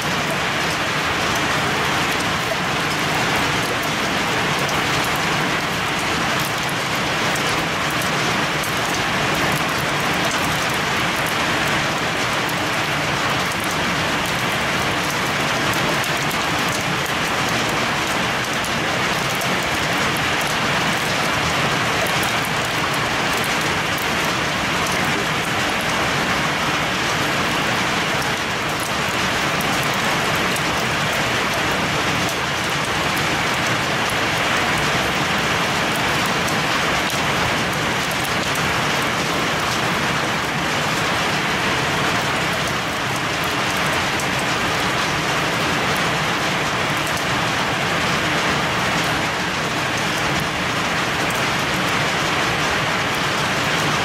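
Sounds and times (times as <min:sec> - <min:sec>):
heavy rain and hail pelting: 0:00.0 - 0:54.0.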